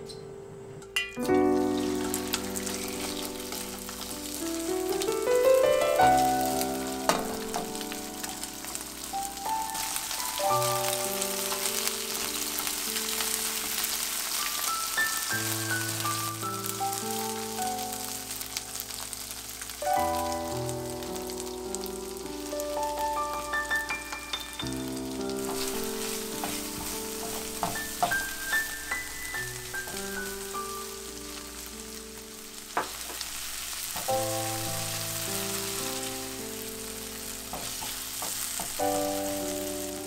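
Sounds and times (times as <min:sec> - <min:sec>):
background music melody: 0:00.0 - 0:40.0
shrimp sizzling in frying pan: 0:01.2 - 0:40.0.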